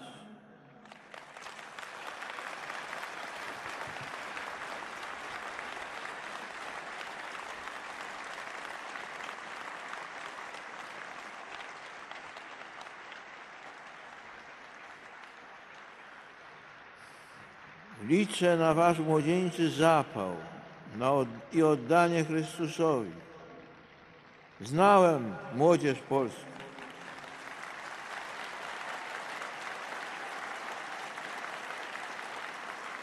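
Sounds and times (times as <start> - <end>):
audience applauding: 0.8 - 33.0.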